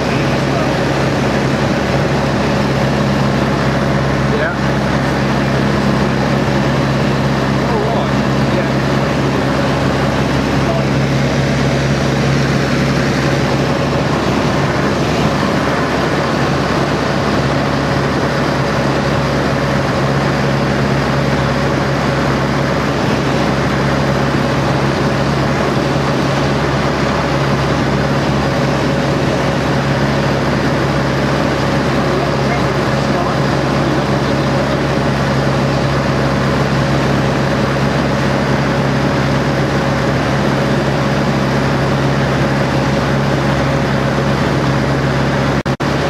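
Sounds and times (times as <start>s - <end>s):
propeller aircraft engine running: 0.0s - 46.0s
rush of airflow: 0.0s - 46.0s.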